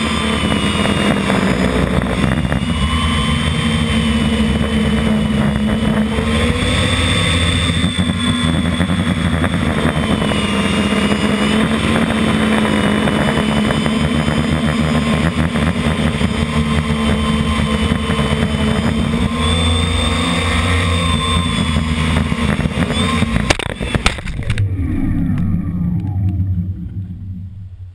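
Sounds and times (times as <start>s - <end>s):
drone knocking on landing: 0.0s - 20.2s, 21.0s - 27.9s
drone motors whining: 0.0s - 27.9s
motors spinning down: 0.0s - 27.9s.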